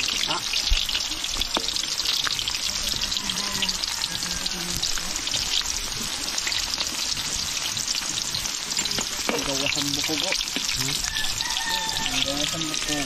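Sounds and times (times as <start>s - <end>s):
deep-frying in hot oil: 0.0s - 13.0s.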